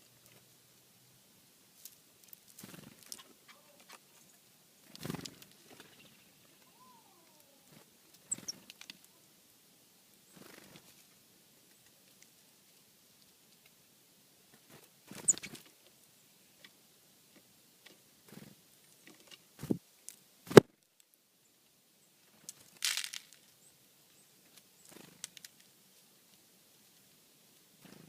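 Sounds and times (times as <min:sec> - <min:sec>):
birds pecking and scuffling: 0:00.0 - 0:28.0.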